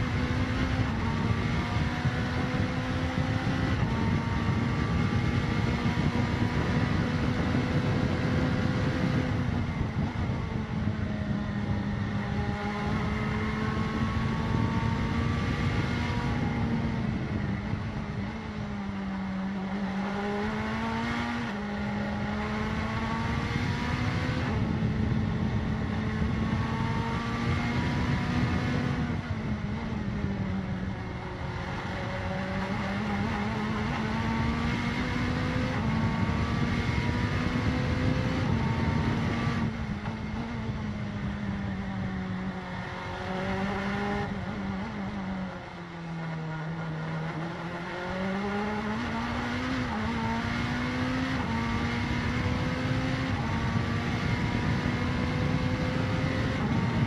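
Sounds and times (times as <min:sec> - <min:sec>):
race car engine at speed: 0:00.0 - 0:57.0
wind and road noise: 0:00.0 - 0:57.0.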